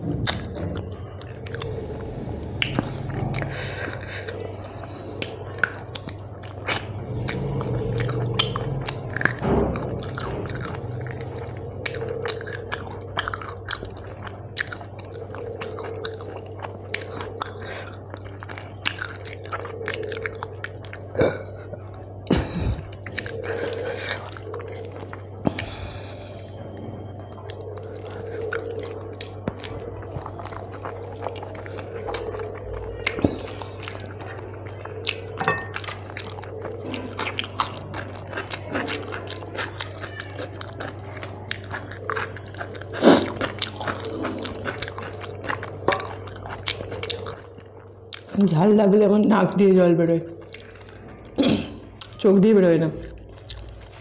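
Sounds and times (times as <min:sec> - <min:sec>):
chewing with mouth smacks: 0:00.0 - 0:54.0
steady low hum: 0:00.0 - 0:54.0.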